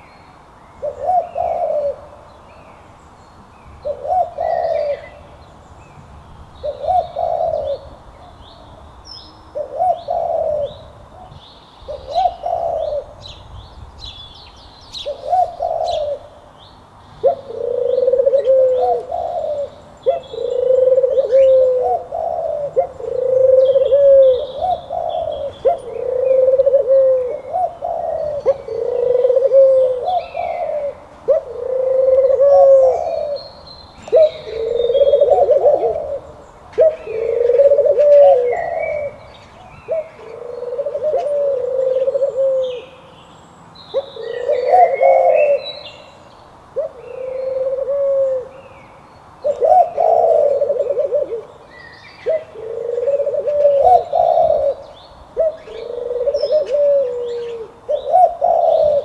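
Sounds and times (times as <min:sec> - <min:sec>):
doves cooing: 0:00.8 - 0:02.3, 0:03.8 - 0:05.4, 0:06.6 - 0:08.4, 0:09.5 - 0:13.4, 0:15.0 - 0:16.5, 0:17.2 - 0:43.1, 0:43.9 - 0:46.0, 0:46.7 - 0:48.7, 0:49.4 - 0:59.0.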